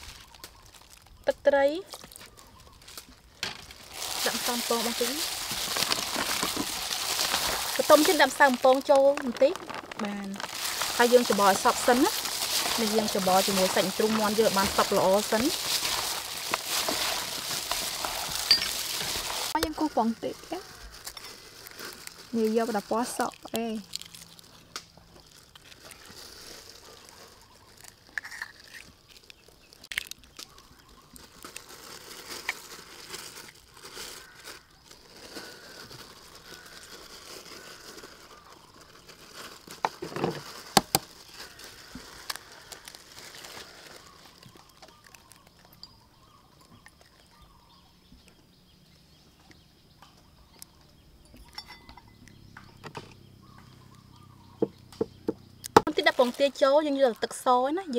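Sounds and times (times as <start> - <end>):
eggshells cracking and crackling: 0.0 - 48.4, 52.2 - 57.9.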